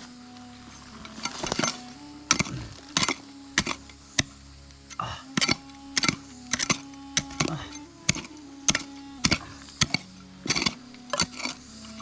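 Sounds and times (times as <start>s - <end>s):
low steady tone: 0.0s - 12.0s.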